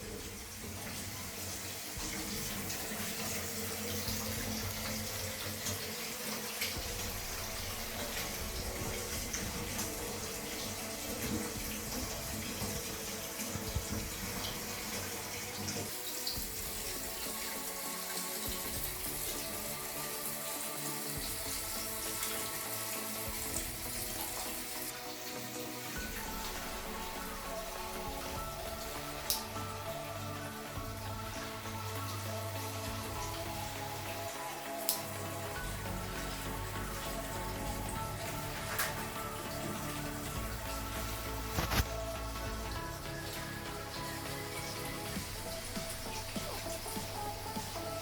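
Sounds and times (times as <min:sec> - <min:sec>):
background music: 0:00.0 - 0:48.0
tap water running into bathtub: 0:00.0 - 0:48.0.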